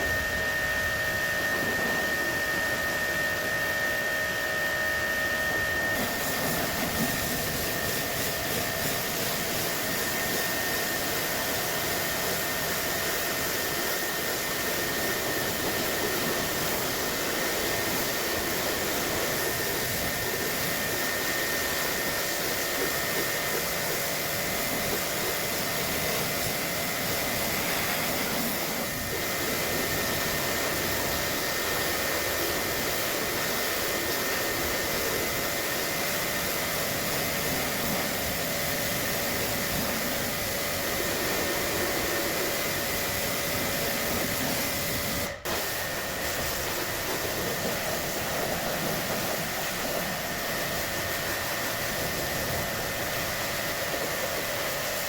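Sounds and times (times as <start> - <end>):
cleaning appliance motor running: 0.0 - 55.0.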